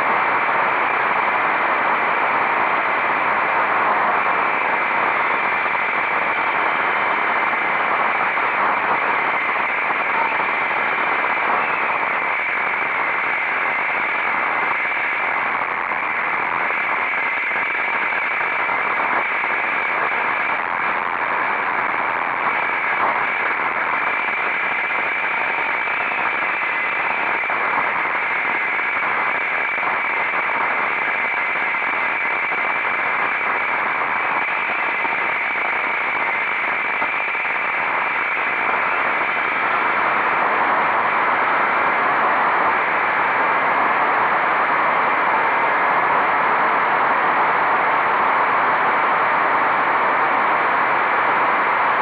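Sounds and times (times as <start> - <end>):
faint high whine: 0.0 - 52.0.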